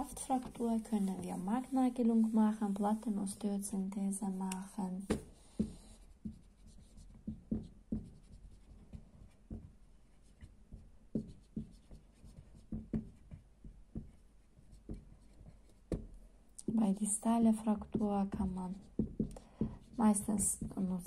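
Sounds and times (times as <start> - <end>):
marker writing on whiteboard: 0.0 - 3.4, 4.2 - 16.2, 16.8 - 21.0.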